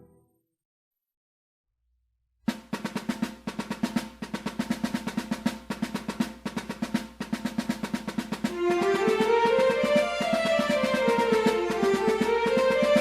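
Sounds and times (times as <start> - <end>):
fast drum beat: 2.5 - 13.0.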